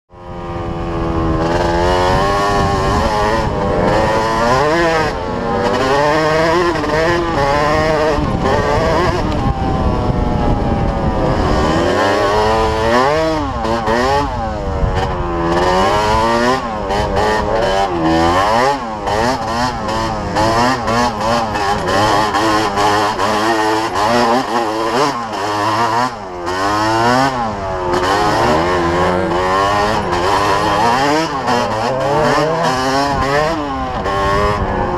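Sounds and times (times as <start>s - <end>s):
two-stroke engine revving: 0.1s - 34.9s.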